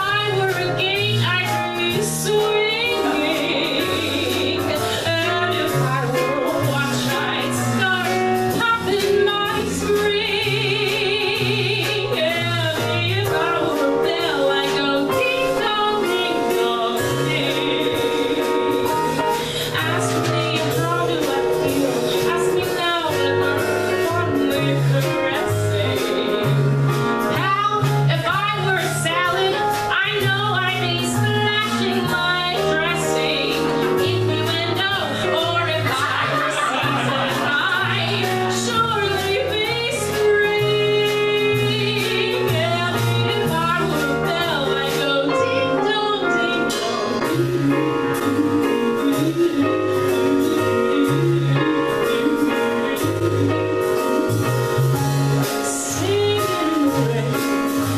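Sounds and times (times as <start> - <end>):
woman singing with vibrato: 0.0 - 54.5, 55.4 - 57.9
jazz combo playing: 0.0 - 57.9.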